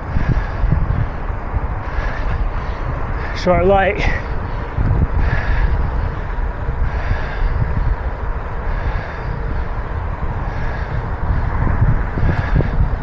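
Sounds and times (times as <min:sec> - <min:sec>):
bicycle road noise: 0:00.0 - 0:13.0
wind buffeting microphone: 0:00.0 - 0:13.0.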